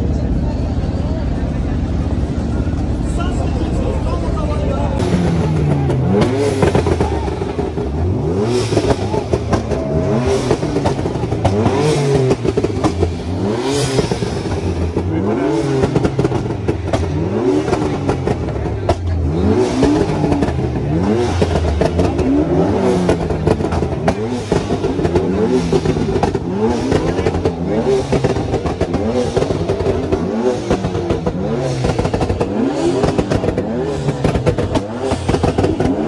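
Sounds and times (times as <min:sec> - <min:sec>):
car engine revving: 0:00.0 - 0:36.0
crowd noise: 0:00.0 - 0:36.0.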